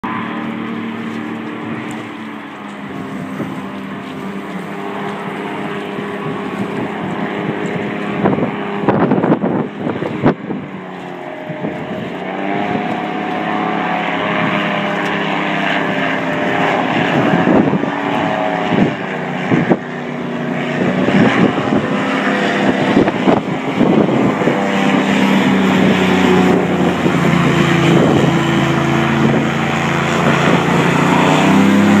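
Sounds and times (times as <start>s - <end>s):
airboat engine and propeller: 0.0s - 32.0s
wind buffeting microphone: 0.0s - 32.0s.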